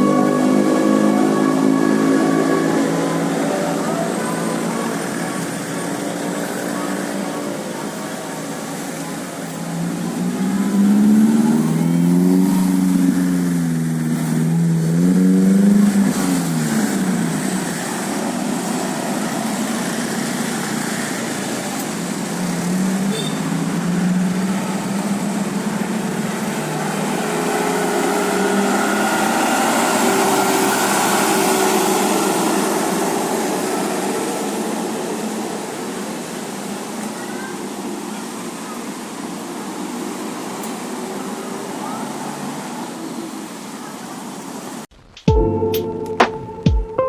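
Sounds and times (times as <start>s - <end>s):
buses driving past revving: 0.0s - 47.0s.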